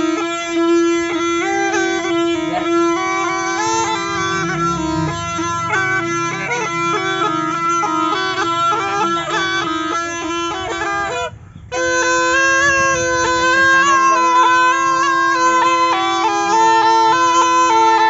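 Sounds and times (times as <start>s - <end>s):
reed pipe melody over drone: 0.0s - 18.0s.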